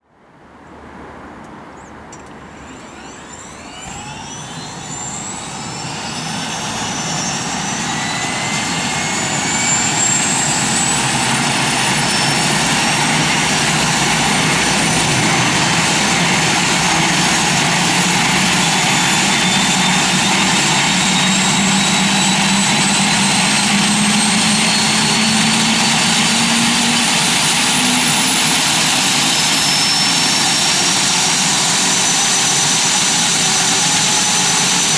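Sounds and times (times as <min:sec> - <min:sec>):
helicopter turbine whine: 0:02.2 - 0:34.9.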